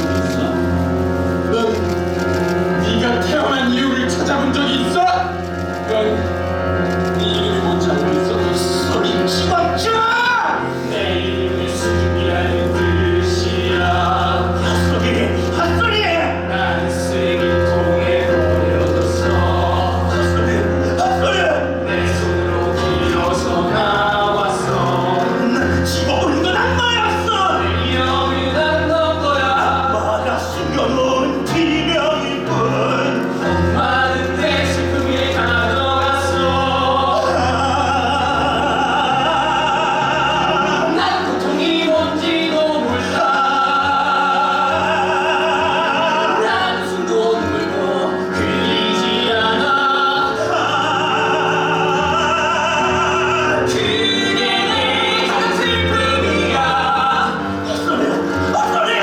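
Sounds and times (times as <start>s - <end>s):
instrumental accompaniment: 0.0s - 59.0s
voices singing with vibrato: 0.0s - 59.0s.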